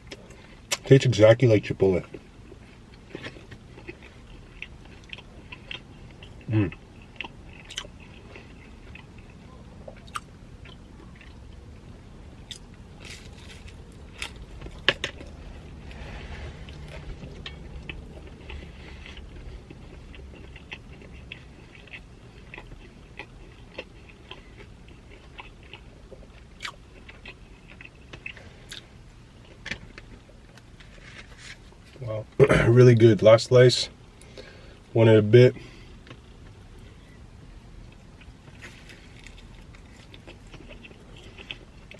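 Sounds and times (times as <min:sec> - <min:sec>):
chewing with mouth clicks: 0:02.0 - 0:32.0, 0:35.6 - 0:41.9.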